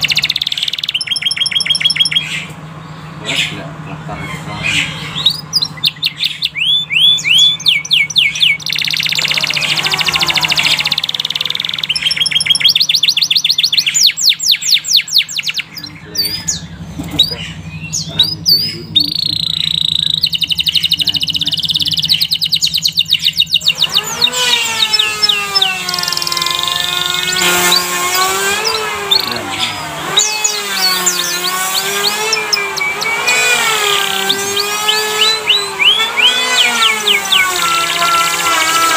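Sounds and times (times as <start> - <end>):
faint low hum: 0.0 - 38.8
canary singing: 0.0 - 38.9.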